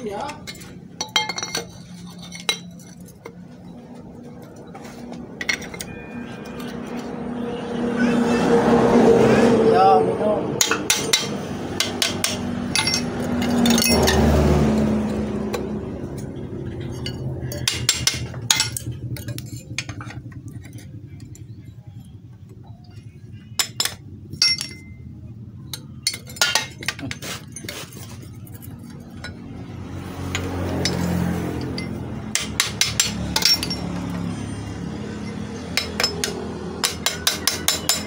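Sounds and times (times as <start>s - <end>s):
metal tools clinking: 0.0s - 7.0s, 10.6s - 21.7s, 22.8s - 29.6s, 30.2s - 38.0s.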